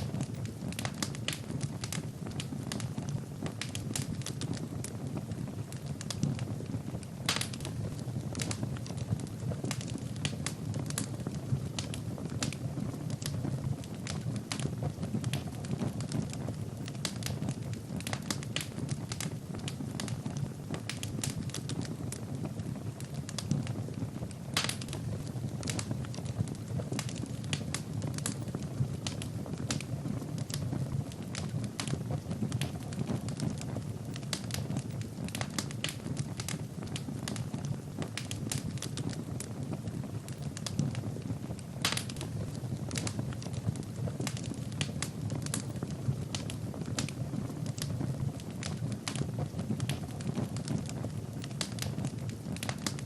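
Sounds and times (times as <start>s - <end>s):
burning logs crackling and popping: 0.0s - 53.0s
low rumble of flames: 0.0s - 53.0s.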